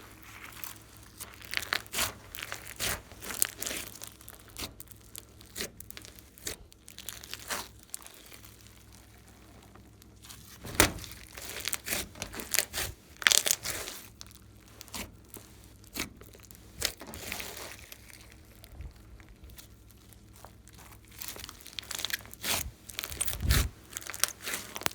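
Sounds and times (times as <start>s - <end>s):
slime squished by hand: 0.3s - 24.9s.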